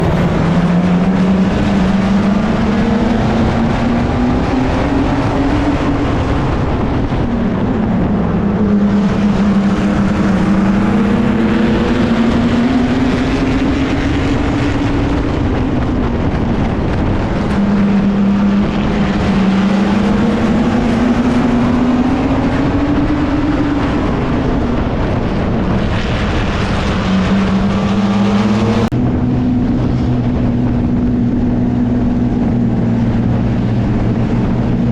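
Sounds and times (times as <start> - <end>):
mini truck engine revving: 0.0 - 34.9.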